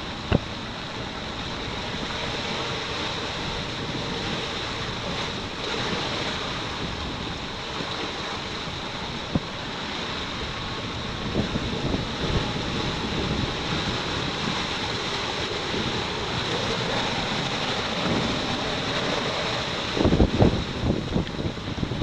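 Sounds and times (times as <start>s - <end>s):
wind and waves rushing: 0.0s - 22.0s
wind buffeting microphone: 0.0s - 22.0s.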